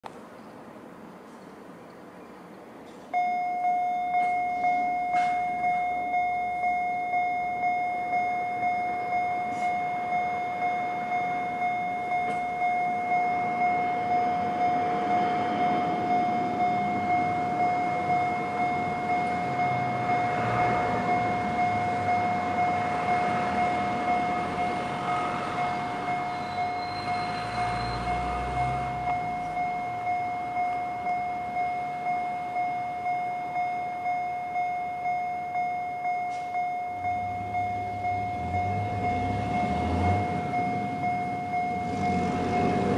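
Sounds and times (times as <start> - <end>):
level crossing warning bell dings: 3.1 - 42.9.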